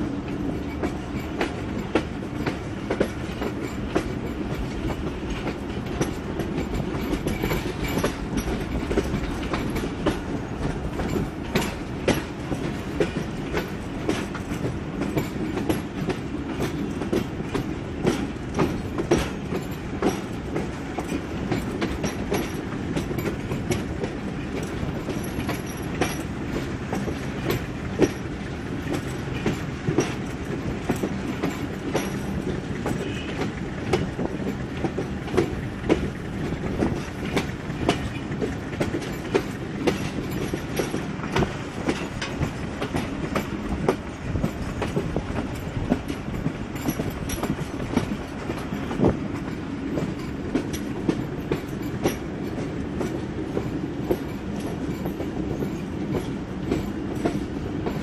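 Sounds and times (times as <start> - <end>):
rail joints clacking: 0.0 - 58.0
train wheels rumbling: 0.0 - 58.0.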